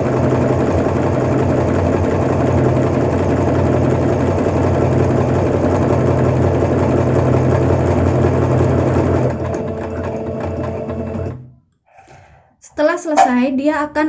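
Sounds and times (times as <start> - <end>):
sewing machine stitching: 0.0 - 11.5.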